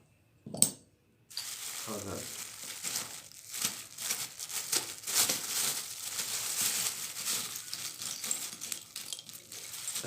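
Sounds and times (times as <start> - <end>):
rummaging through small objects: 1.3 - 10.0.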